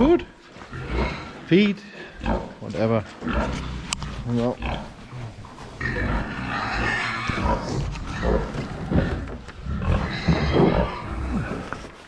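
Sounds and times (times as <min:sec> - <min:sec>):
pigs grunting and squealing: 0:00.6 - 0:11.8.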